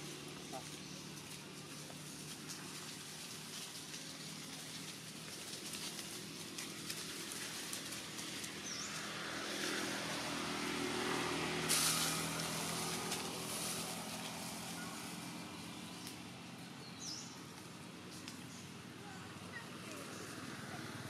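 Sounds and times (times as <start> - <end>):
dry leaves rustling: 0.0 - 21.0
motor vehicle running: 0.0 - 21.0.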